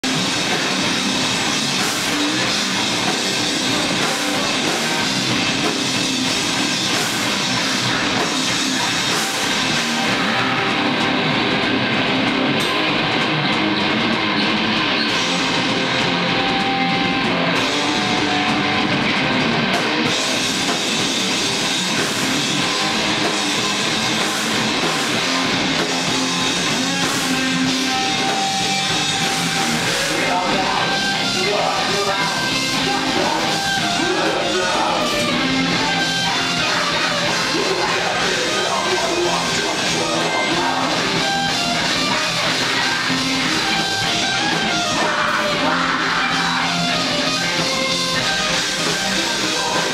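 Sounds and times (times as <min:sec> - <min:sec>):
heavy metal band playing: 0:00.0 - 0:49.9.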